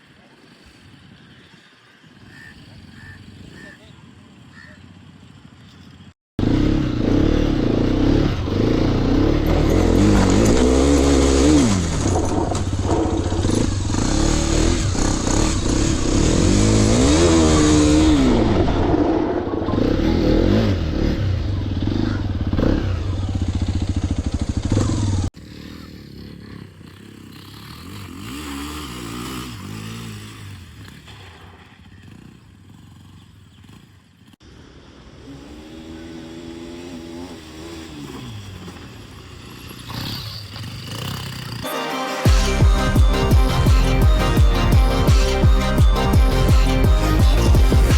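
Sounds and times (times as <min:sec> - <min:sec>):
motorcycle engine revving: 0:00.4 - 0:47.9.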